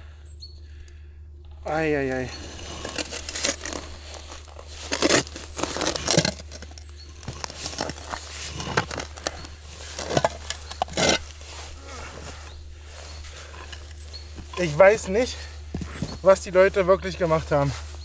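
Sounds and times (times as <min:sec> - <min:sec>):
digging in forest soil: 0:01.6 - 0:18.0.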